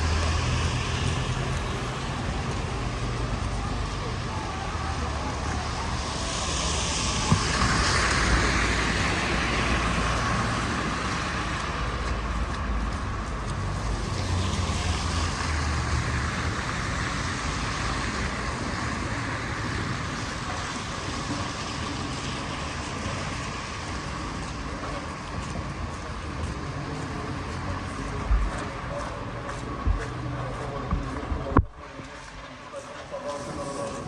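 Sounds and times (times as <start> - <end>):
vehicle engines rumbling: 0.0 - 34.0.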